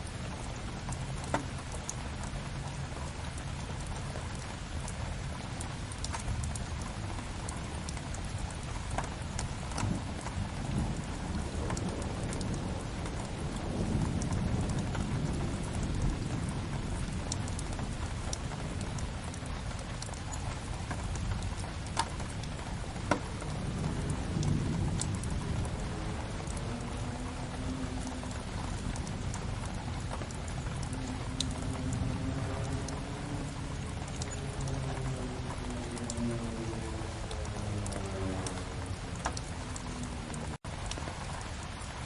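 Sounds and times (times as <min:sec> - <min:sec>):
rain on a window: 0:00.0 - 0:42.0.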